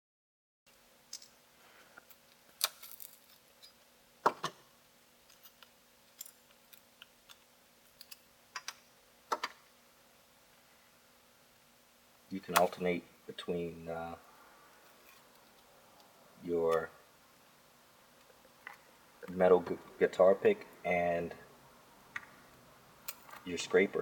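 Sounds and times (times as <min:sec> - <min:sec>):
faint hum: 0:00.7 - 0:24.0.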